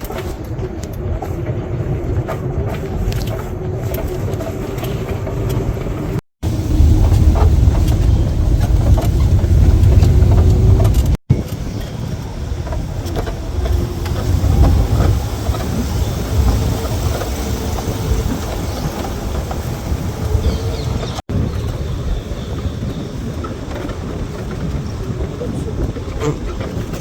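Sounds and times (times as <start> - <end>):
jeep engine rumbling: 0.0 - 27.0.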